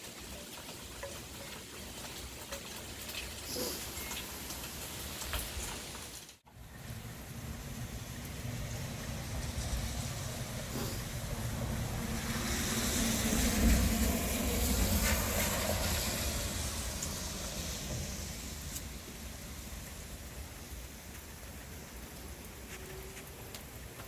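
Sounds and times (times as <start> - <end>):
wind and rain rushing: 1.6 - 24.0.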